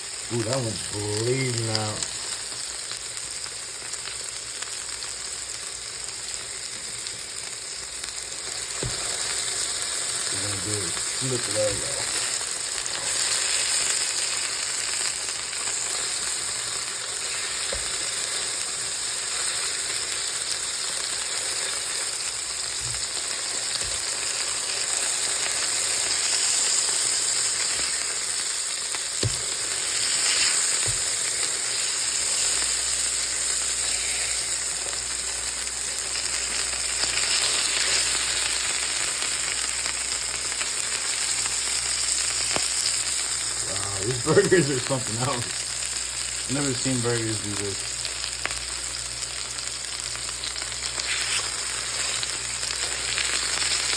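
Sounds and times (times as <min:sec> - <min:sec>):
burger patties sizzling in pan: 0:00.0 - 0:53.9.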